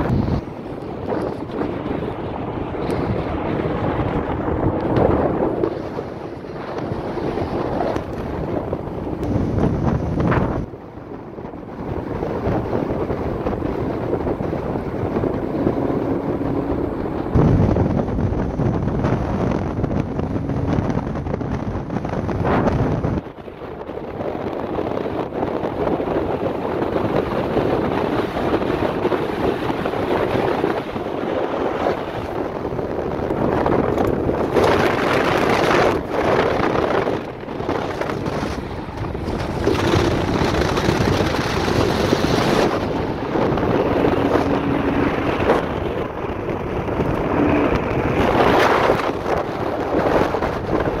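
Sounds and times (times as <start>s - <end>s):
car road noise: 0.0s - 51.0s
wind rushing over microphone: 0.0s - 51.0s.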